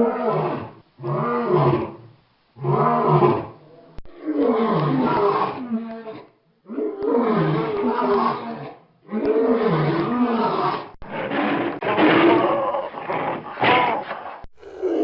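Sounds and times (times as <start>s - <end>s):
lion roaring: 0.0s - 15.0s.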